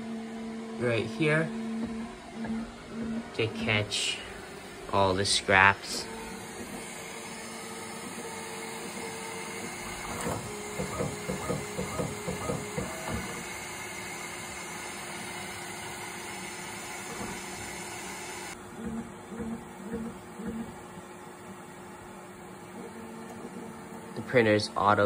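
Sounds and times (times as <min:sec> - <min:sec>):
fan whirring: 0:00.0 - 0:25.0.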